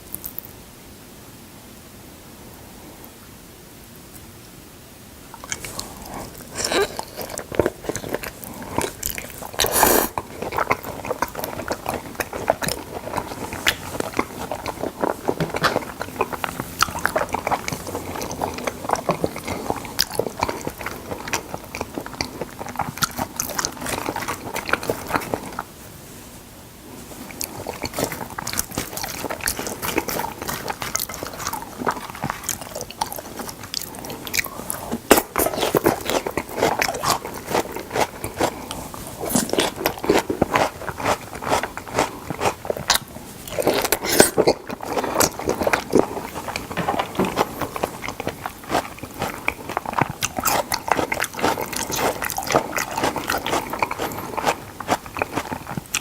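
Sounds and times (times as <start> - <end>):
wet chewing and mouth smacking: 5.3 - 25.9, 26.9 - 56.0.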